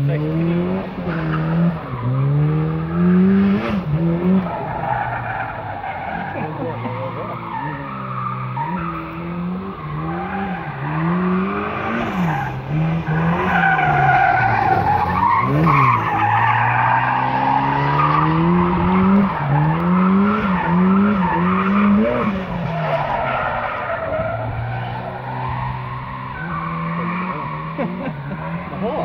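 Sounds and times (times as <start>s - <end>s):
car engine revving: 0.0s - 29.0s
tyres skidding with squeal: 0.0s - 29.0s.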